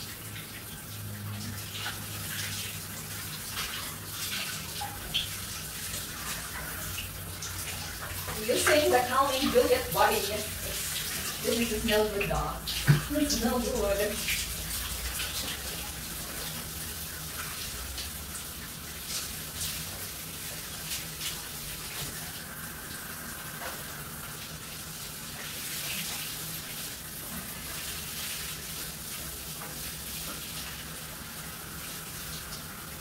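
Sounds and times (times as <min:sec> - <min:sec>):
shower water spraying on tiles: 0:00.0 - 0:33.0.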